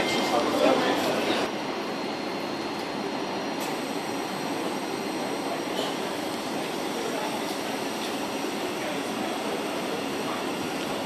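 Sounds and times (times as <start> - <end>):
electric train hum and hiss: 0.0 - 11.0
faint high whine: 0.0 - 11.0.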